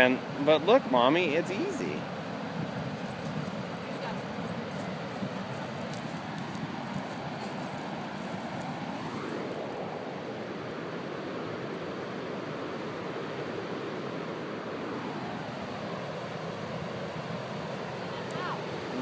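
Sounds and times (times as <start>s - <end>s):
ocean surf breaking: 0.0s - 19.0s
wind: 0.0s - 19.0s.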